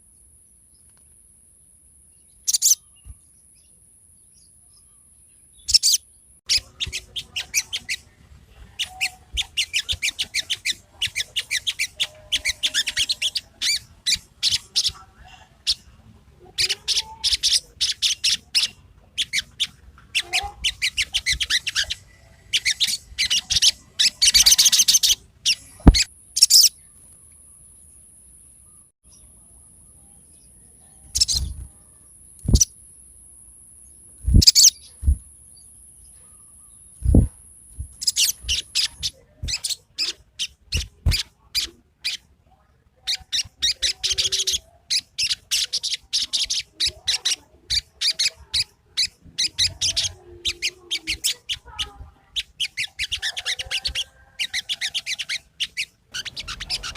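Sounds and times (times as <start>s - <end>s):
songbird chattering: 2.1s - 32.8s, 33.8s - 42.3s, 43.0s - 56.9s.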